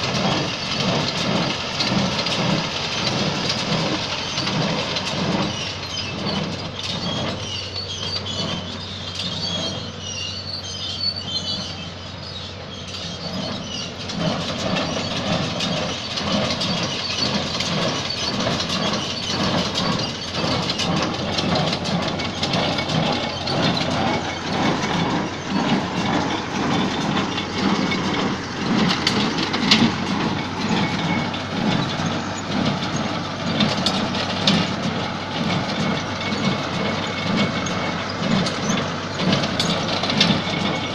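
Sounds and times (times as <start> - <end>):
baler mechanism clattering: 0.0 - 40.9
tractor diesel engine hum: 0.0 - 40.9.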